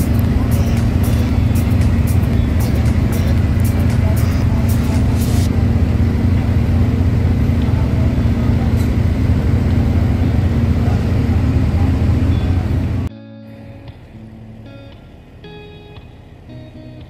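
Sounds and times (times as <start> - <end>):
large engine humming: 0.0 - 17.0.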